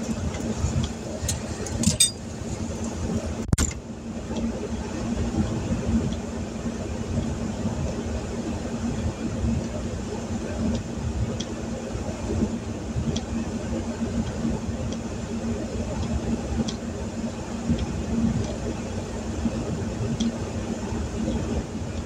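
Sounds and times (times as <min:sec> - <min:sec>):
idling vehicle hum: 0:00.0 - 0:22.0.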